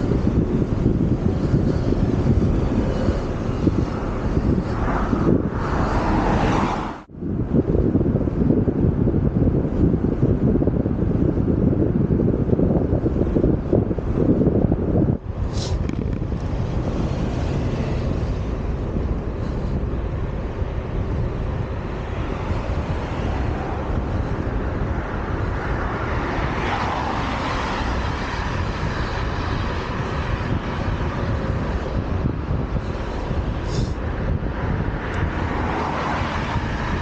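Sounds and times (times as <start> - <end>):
bicycle road noise: 0.0 - 37.0
wind rumble on microphone: 0.0 - 37.0.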